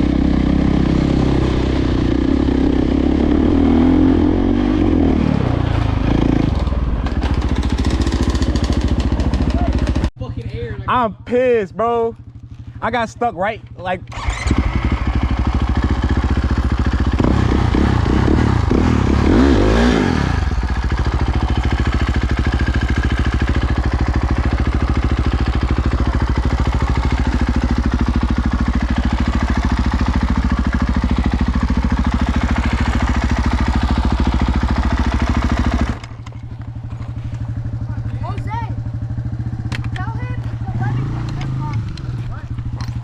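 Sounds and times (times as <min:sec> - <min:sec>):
dirt bike engine revving: 0:00.0 - 0:11.0, 0:11.9 - 0:43.0.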